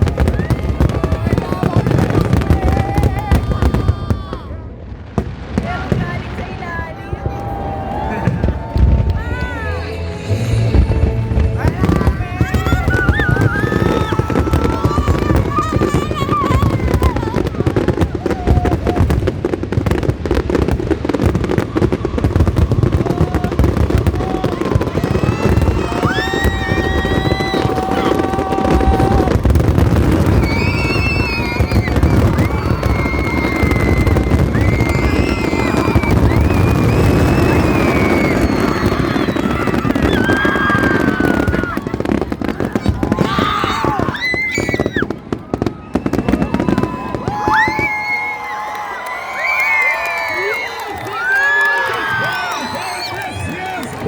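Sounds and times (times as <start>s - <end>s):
fireworks crackling and banging: 0.0s - 54.0s.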